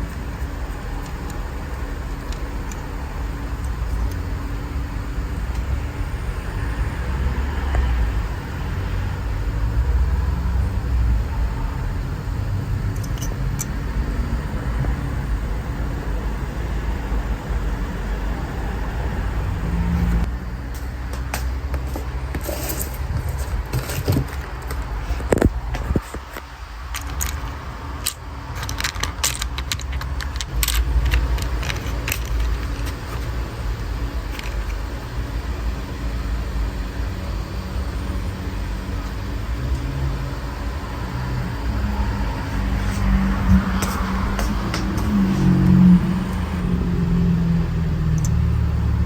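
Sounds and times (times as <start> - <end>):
car engine idling: 0.0 - 20.8, 23.1 - 49.0.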